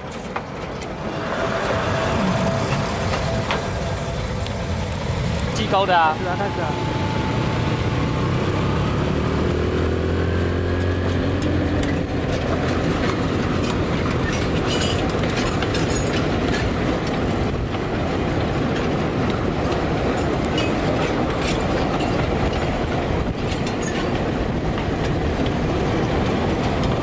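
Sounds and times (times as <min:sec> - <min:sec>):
diesel locomotive engine hum: 0:00.0 - 0:27.0
wagons clattering on rails: 0:00.0 - 0:27.0.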